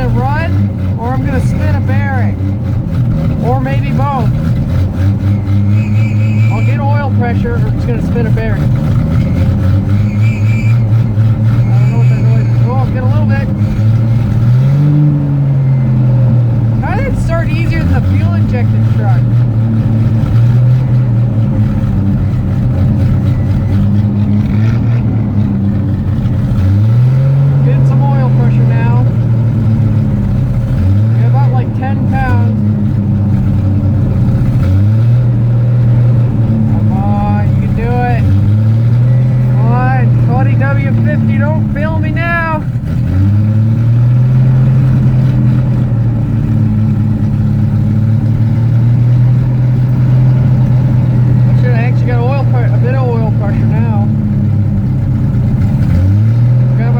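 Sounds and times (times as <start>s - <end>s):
pickup engine idling: 0.0s - 56.9s.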